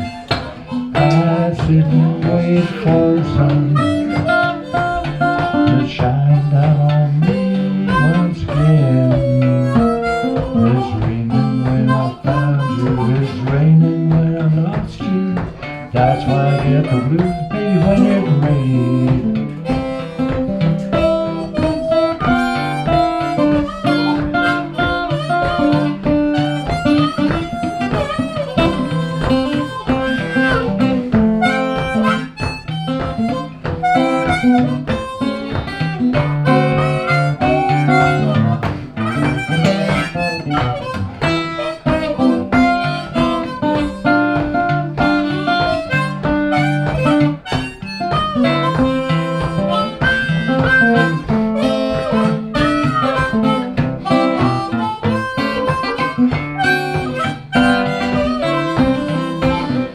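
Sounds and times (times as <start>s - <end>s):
acoustic guitar accompaniment: 0.0s - 59.9s
blues harmonica solo: 0.0s - 59.9s.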